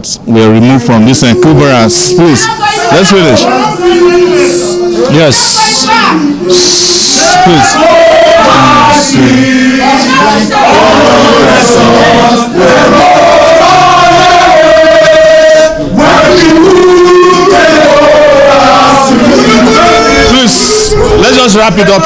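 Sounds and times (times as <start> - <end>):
crowd singing in chorus: 0.4 - 22.0.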